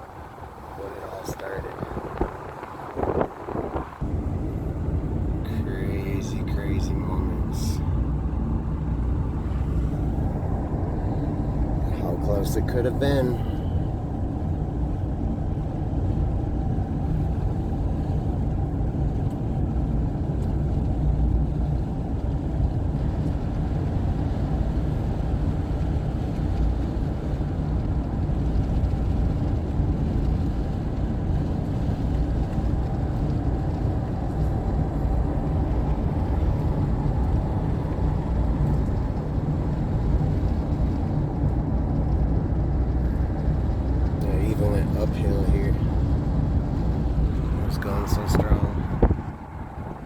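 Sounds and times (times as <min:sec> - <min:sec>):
car tyres and engine rumbling: 0:00.0 - 0:50.0.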